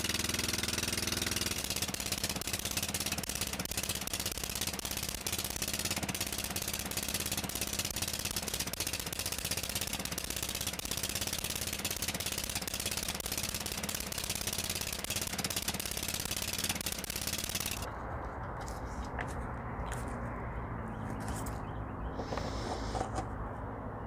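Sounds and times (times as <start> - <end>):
lawn mower engine running: 0.0 - 20.1.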